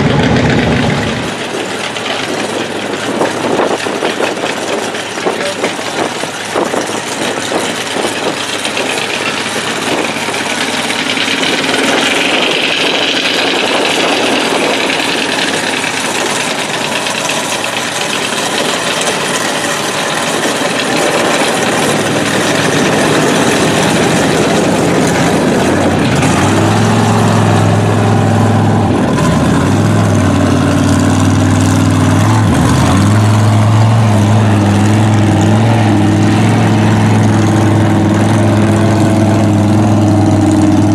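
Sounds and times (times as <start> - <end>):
truck engines running: 0.0 - 40.9.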